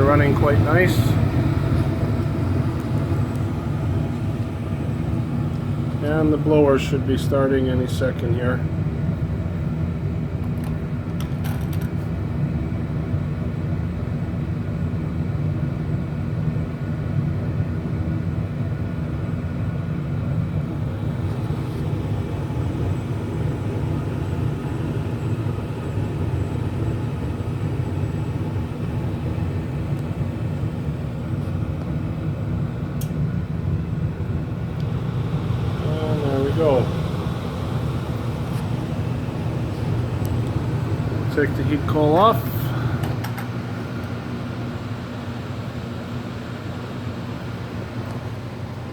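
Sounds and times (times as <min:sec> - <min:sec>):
faint hum: 0:00.0 - 0:48.9
gas furnace rumbling: 0:00.0 - 0:48.9.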